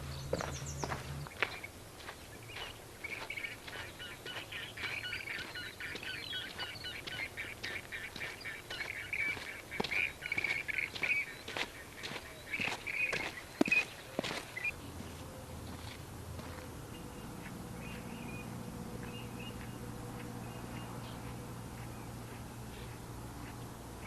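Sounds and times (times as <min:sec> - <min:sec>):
footsteps on a trail: 0:00.0 - 0:23.7
birds chattering: 0:00.0 - 0:24.0.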